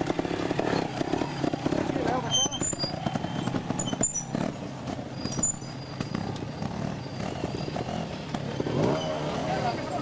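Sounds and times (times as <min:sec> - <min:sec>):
motorcycle engine puttering: 0:00.0 - 0:10.0.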